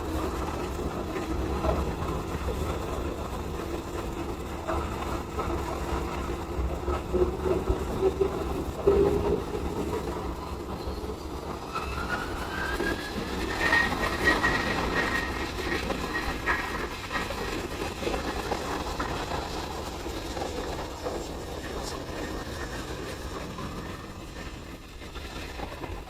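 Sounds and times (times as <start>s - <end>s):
jet engines rumbling and whining: 0.0s - 26.0s.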